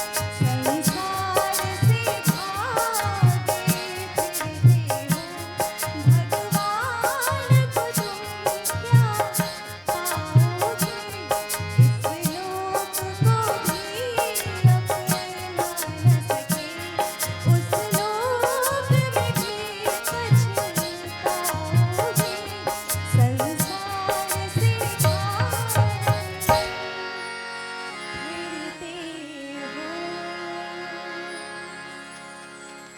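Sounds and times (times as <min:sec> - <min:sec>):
dholak and tabla drumming: 0:00.0 - 0:27.0
woman singing: 0:00.0 - 0:27.3, 0:28.1 - 0:31.5
harmonium: 0:00.0 - 0:32.9.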